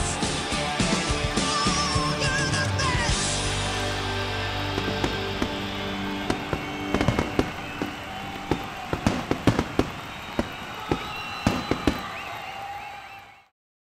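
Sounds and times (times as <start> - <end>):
fireworks crackling hiss: 0.0 - 12.5
fireworks whistling: 0.0 - 13.5
fireworks bangs: 0.1 - 12.9.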